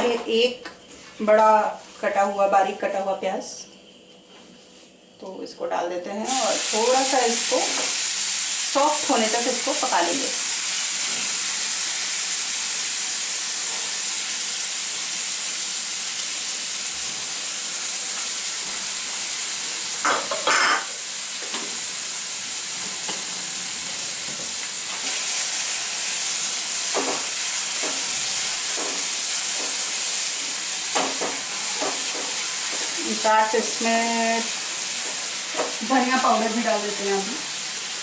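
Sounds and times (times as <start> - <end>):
onion sizzling in hot oil: 6.2 - 38.0.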